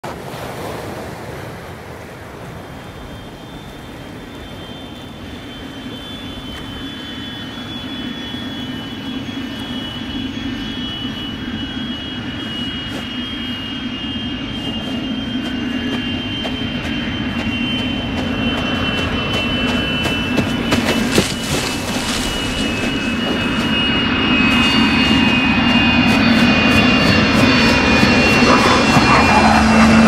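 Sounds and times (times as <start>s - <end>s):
jet airliner overhead: 0.0s - 30.0s.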